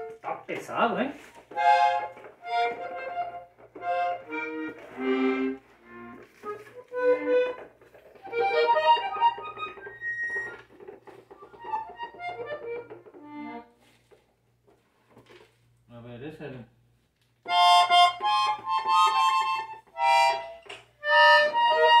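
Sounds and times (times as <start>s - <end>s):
button accordion halting notes: 0.0s - 0.5s, 1.1s - 13.8s, 17.5s - 22.0s.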